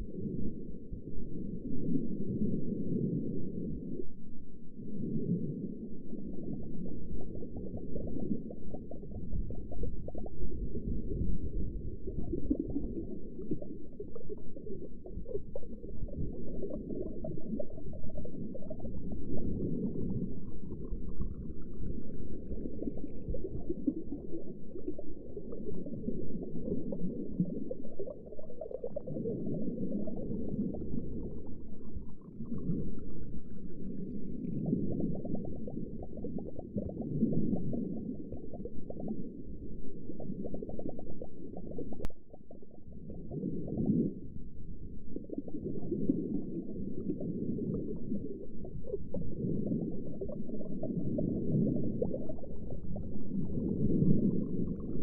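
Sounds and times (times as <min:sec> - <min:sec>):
underwater churning rumble: 0:05.0 - 0:55.0.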